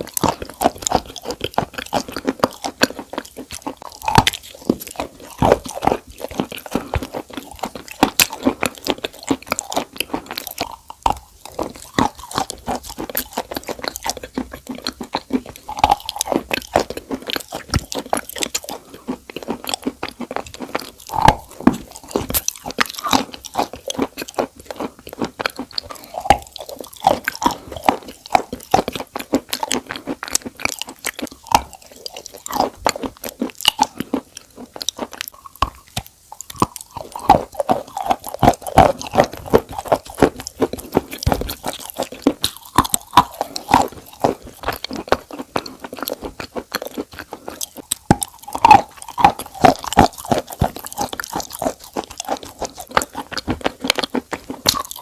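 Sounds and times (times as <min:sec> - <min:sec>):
crunching and chewing: 0:00.0 - 0:55.0.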